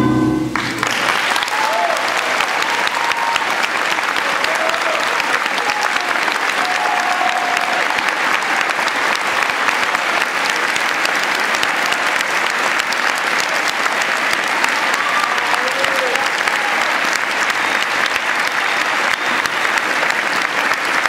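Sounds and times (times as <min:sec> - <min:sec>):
audience applauding: 0:00.6 - 0:21.0.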